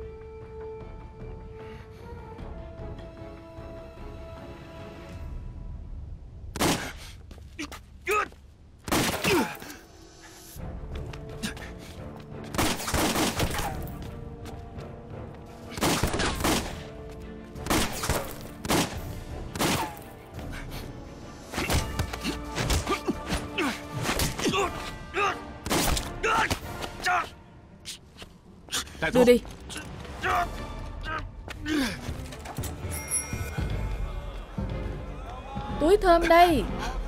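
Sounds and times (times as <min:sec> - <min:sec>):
dramatic background music: 0:00.0 - 0:07.1, 0:08.8 - 0:37.0.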